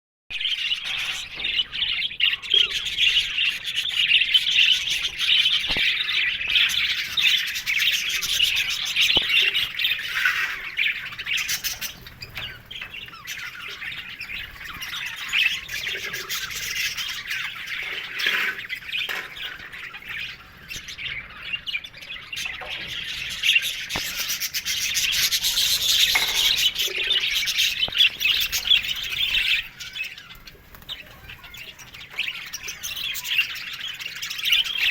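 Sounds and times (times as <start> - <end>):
budgerigars chattering and warbling: 0.3 - 34.9.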